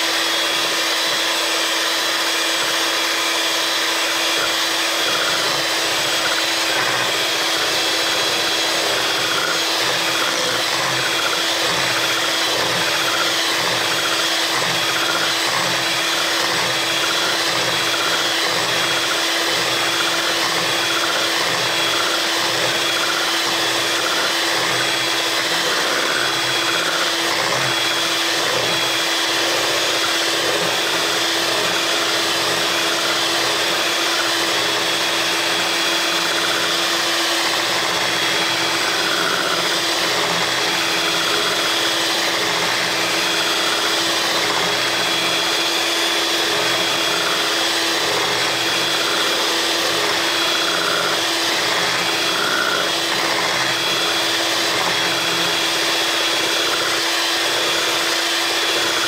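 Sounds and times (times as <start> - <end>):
electric hand mixer whining: 0.0 - 59.0.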